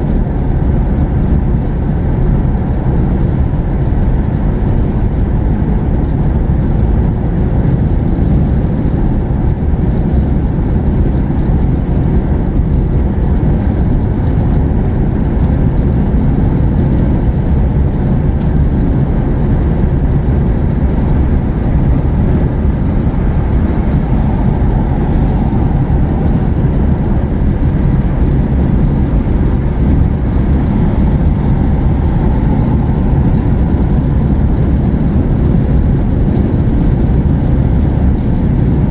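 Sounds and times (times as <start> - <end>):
car cabin road and engine noise: 0.0 - 38.9.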